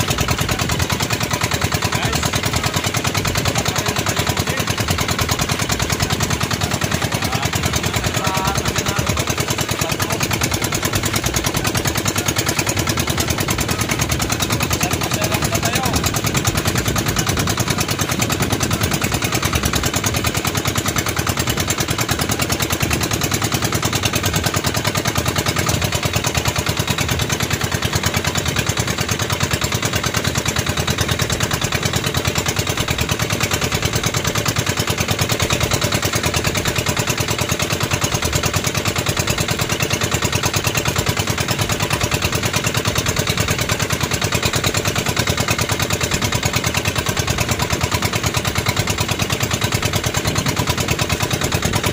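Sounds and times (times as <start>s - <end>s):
boat engine puttering: 0.0s - 51.9s.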